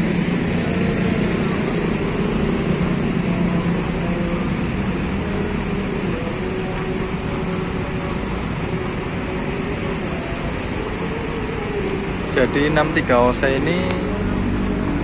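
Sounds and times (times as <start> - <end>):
air conditioning running: 0.0 - 15.0
diesel bus idling: 0.0 - 15.0.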